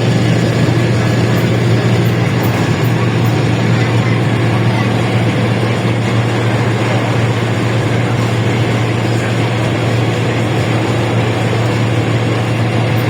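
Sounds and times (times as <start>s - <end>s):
bus engine drone: 0.0s - 13.0s
road and body noise: 0.0s - 13.0s.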